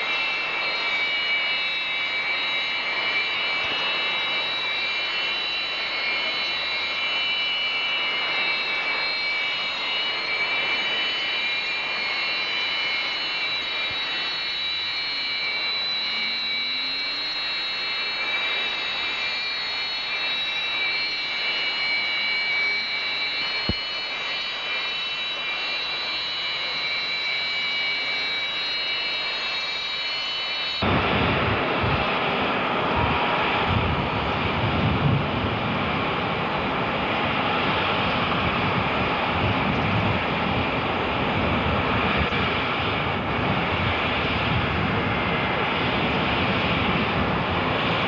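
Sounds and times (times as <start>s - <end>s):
jet turbine engines whining: 0.0s - 48.0s.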